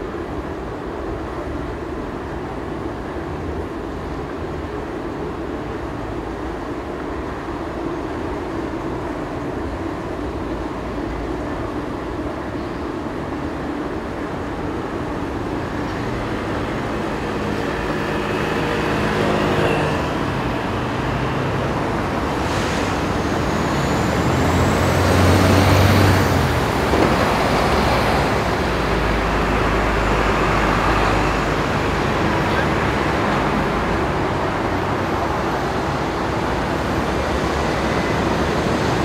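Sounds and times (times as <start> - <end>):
city background noise: 0.0 - 39.0
passing vehicles rumbling: 0.0 - 39.0.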